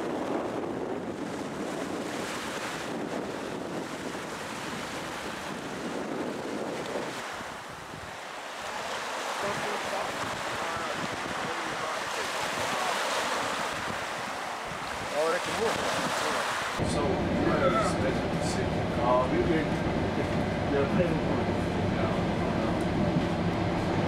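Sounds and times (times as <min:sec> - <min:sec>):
small waves breaking on shore: 0:00.0 - 0:22.5
wind on microphone: 0:00.0 - 0:24.0.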